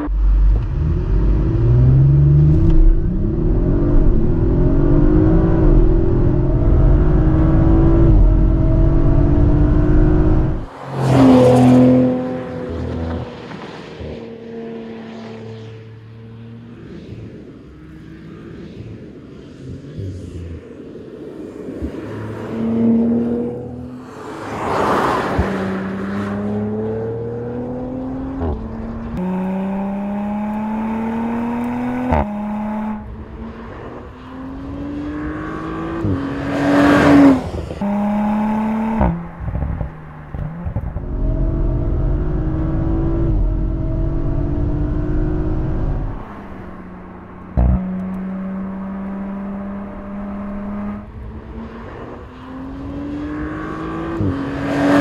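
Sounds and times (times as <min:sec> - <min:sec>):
car engine accelerating: 0:00.0 - 0:55.0
car rushing past: 0:00.0 - 0:55.0.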